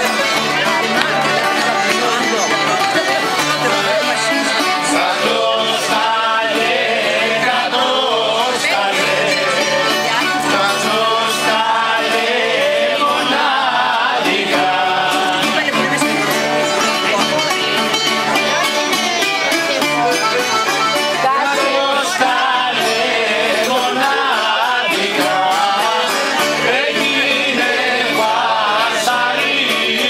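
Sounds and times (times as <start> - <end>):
men singing: 0.0 - 16.7, 21.2 - 30.0
accordion: 0.0 - 30.0
guitar: 0.0 - 30.0.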